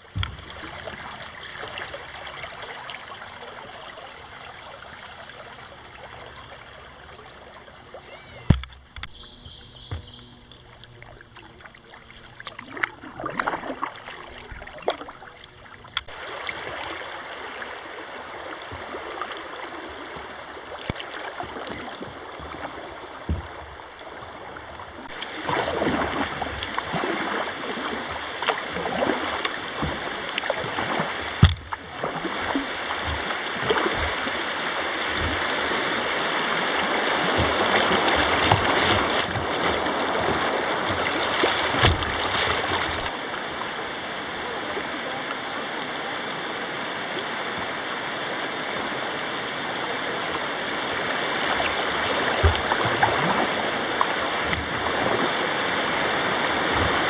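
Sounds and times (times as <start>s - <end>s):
river water rushing: 0.0s - 10.6s, 16.1s - 57.0s
water splashes: 0.0s - 57.0s.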